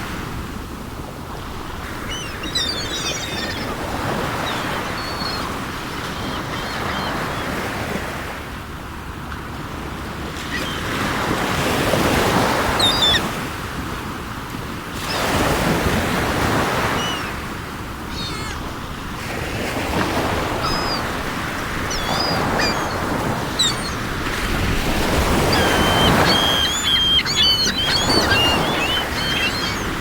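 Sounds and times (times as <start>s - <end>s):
sea waves breaking on shore: 0.0s - 30.0s
seagulls calling: 1.4s - 8.3s, 10.3s - 13.5s, 15.0s - 30.0s.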